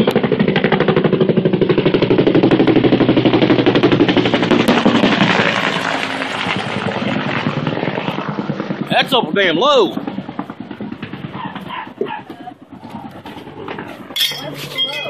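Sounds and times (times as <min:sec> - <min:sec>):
helicopter rotor blades chopping: 0:00.0 - 0:15.0.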